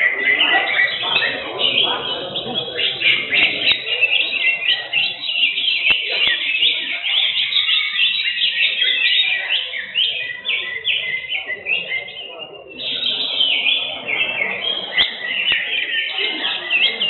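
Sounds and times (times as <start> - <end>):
birds singing high chirps and whistles: 0.0 - 17.0.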